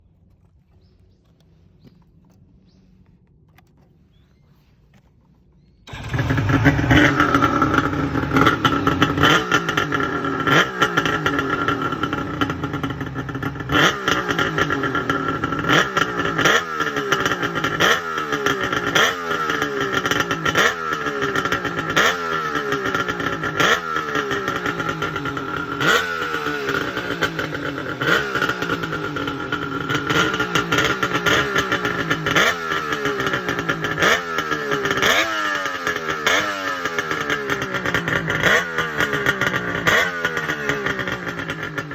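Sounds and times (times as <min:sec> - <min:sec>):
motorcycle engine revving: 0:05.6 - 0:41.9.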